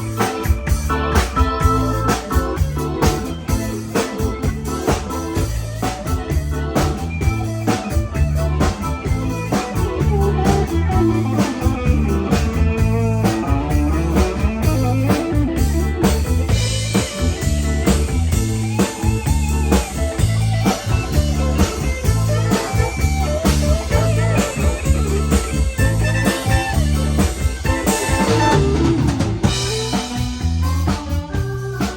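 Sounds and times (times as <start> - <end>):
blues-rock band playing: 0.0 - 31.9.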